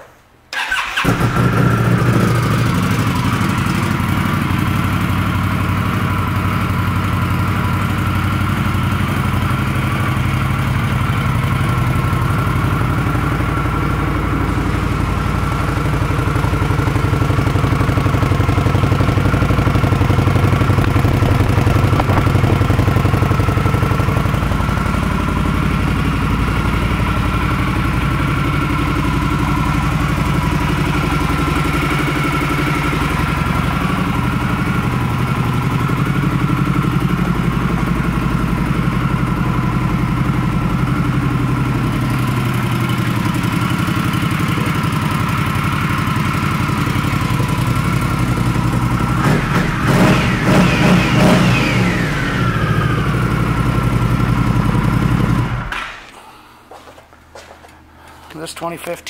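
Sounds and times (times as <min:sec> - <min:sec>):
motorcycle engine starting and idling: 0:00.5 - 0:59.0.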